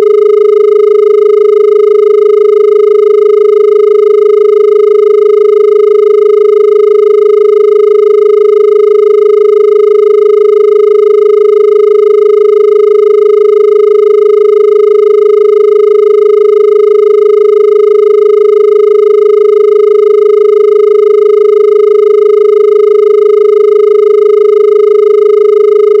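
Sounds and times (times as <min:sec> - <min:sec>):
telephone dial tone: 0:00.0 - 0:26.0.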